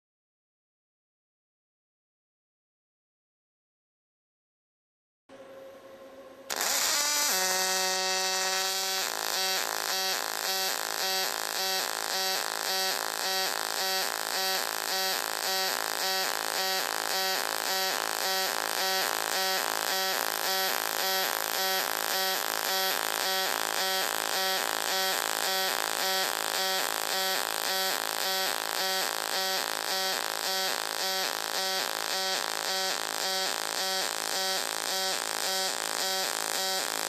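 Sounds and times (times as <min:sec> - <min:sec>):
welding arc buzzing: 0:06.5 - 0:37.0.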